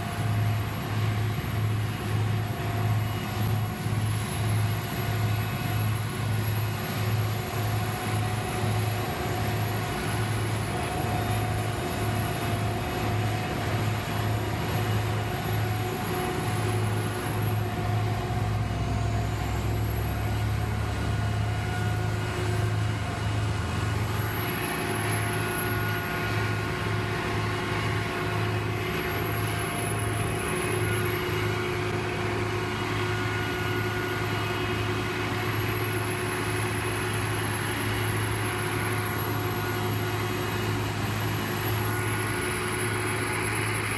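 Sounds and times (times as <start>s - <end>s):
heavy machinery engine droning: 0.0s - 43.9s.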